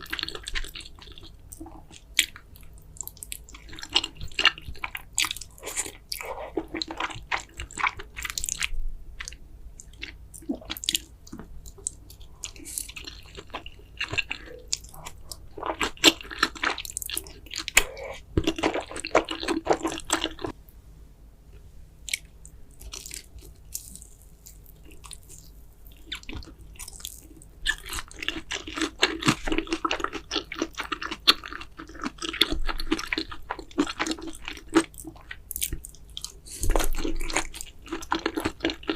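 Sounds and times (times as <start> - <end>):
wet chewing and mouth smacking: 0.0 - 20.6, 22.0 - 38.9.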